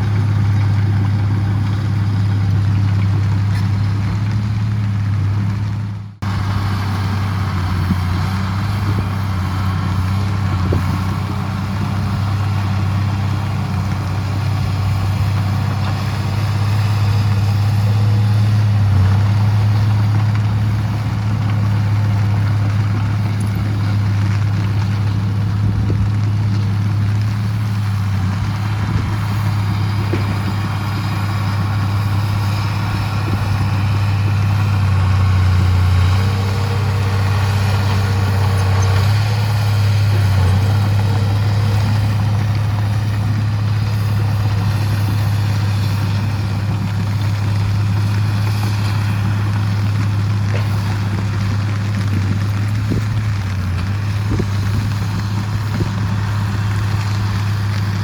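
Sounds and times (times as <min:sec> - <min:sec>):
diesel machinery engine humming: 0:00.0 - 0:58.0.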